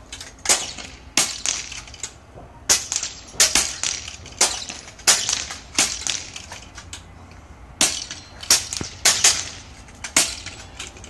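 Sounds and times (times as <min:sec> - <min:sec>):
air rifle firing: 0:00.4 - 0:06.5, 0:07.8 - 0:10.8.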